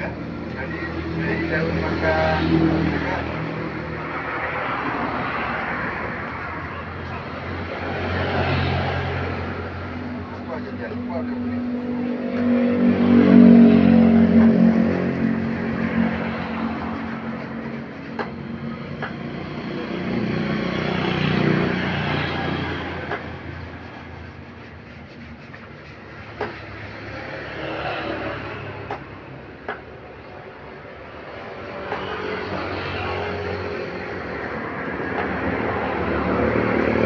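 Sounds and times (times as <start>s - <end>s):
traffic passing by: 0.0s - 37.0s.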